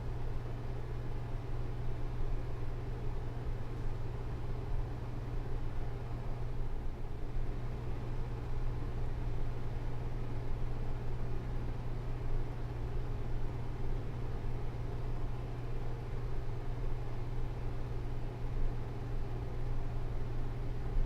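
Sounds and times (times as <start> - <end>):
air conditioner humming: 0.0 - 21.0.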